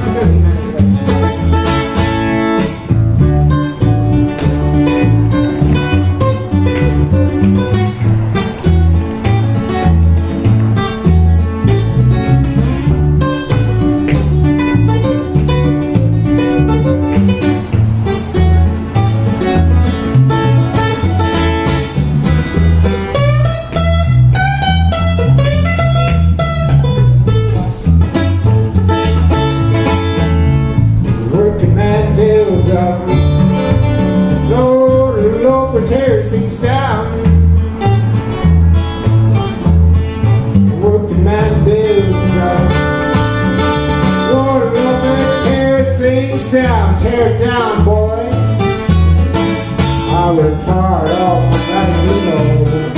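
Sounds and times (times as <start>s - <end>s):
acoustic guitar playing solo: 0.0s - 52.9s.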